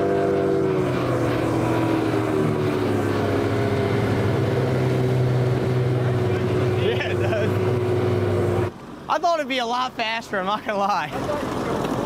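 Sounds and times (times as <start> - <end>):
outboard motors droning: 0.0 - 12.0.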